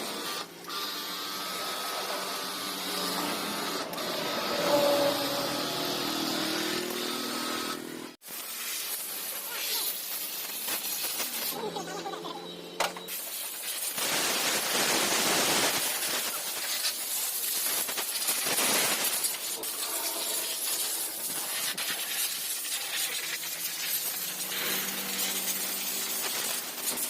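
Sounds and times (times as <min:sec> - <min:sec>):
high-pressure spray hissing: 0:02.2 - 0:12.0, 0:13.1 - 0:27.0.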